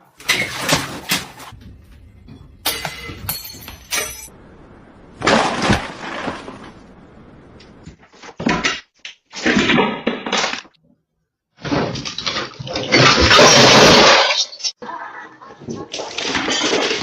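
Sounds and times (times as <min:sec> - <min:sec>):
objects crashing and breaking: 0:00.0 - 0:04.4, 0:05.0 - 0:10.8, 0:11.6 - 0:14.8, 0:16.0 - 0:17.0.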